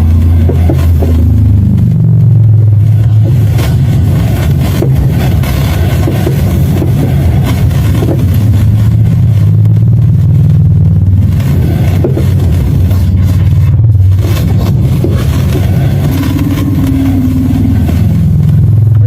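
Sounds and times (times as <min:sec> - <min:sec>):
low droning hum over radio: 0:00.0 - 0:19.0.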